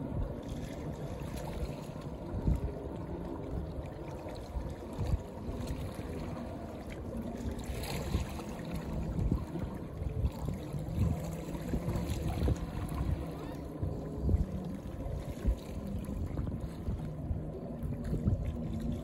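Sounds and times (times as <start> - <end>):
seawater lapping against rocks: 0.0 - 19.0
wind rumbling on microphone: 0.0 - 19.0.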